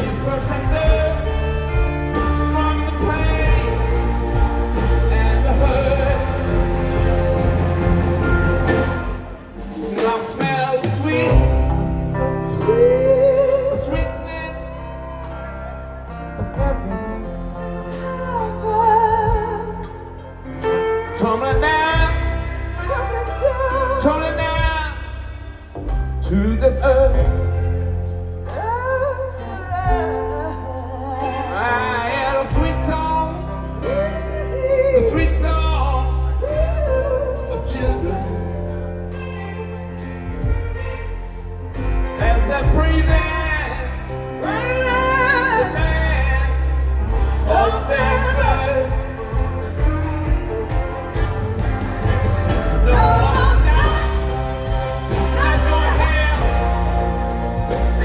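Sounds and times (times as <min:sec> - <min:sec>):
steady low bass: 0:00.0 - 0:09.8, 0:21.2 - 0:58.0
live rock band playing ballad: 0:00.0 - 0:58.0
person singing with vibrato: 0:00.0 - 0:58.0.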